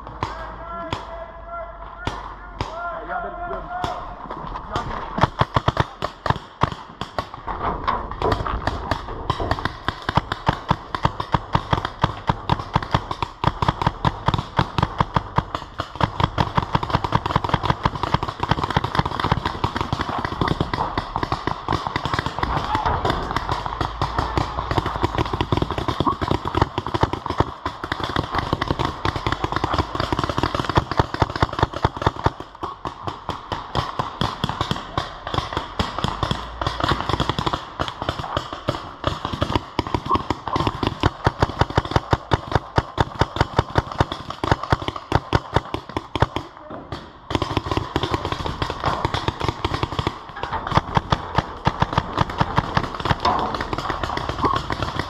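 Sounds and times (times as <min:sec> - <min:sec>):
paintball markers firing: 0:05.1 - 0:07.4, 0:08.2 - 0:55.0.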